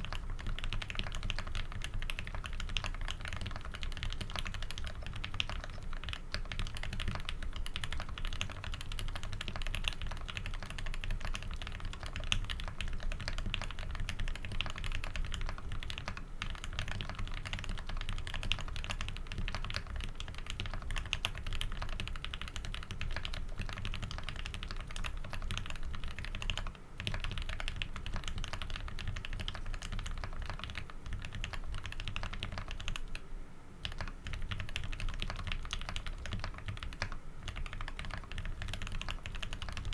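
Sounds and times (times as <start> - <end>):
mechanical keyboard typing: 0.0 - 33.2, 33.8 - 39.9.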